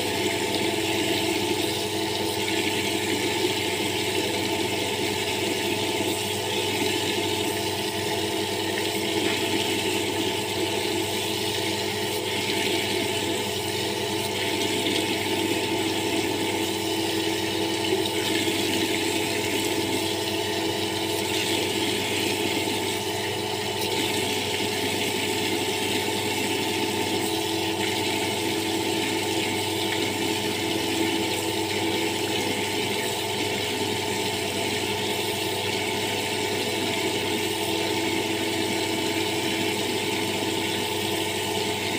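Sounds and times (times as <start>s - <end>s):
water running from tap: 0.0s - 41.9s.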